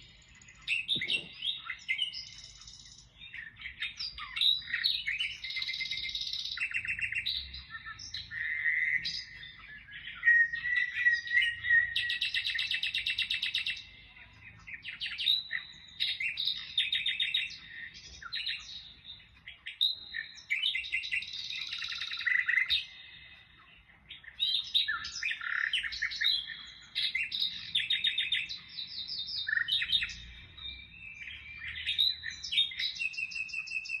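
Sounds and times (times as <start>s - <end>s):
birds chirping and singing: 0.0s - 34.0s.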